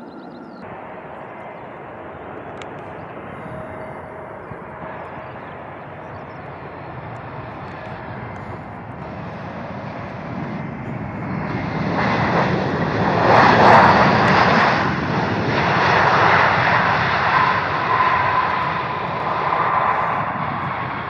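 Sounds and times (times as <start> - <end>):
high whine: 0.0 - 21.0
jet airliner passing: 0.0 - 21.0.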